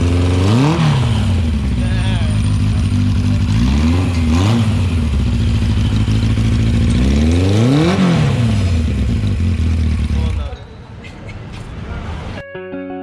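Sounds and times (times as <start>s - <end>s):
motorcycle engine idling and revving: 0.0s - 12.4s.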